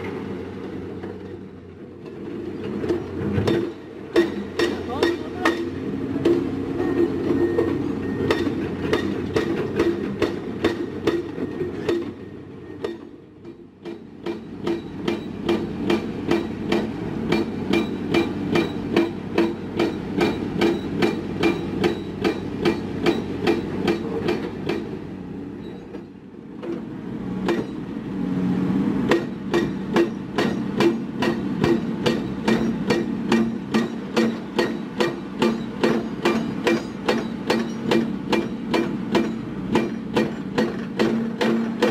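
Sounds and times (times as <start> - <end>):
construction machinery engine: 0.0 - 41.9
regular metallic knocks: 1.0 - 27.9, 29.1 - 41.9.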